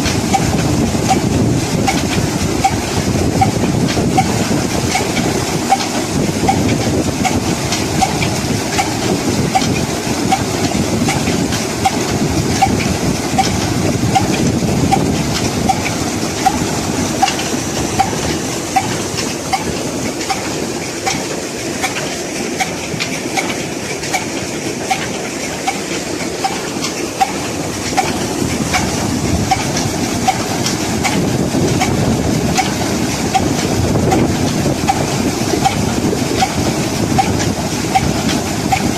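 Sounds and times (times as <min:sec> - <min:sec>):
diesel engine running: 0:00.0 - 0:38.9
regular engine click: 0:00.0 - 0:38.9.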